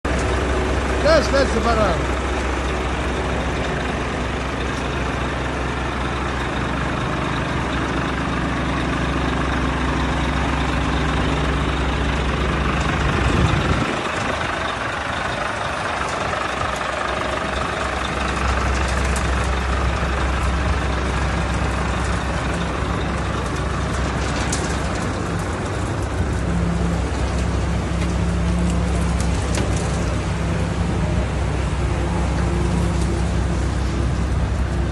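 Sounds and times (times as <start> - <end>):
diesel truck engine droning: 0.0 - 34.9.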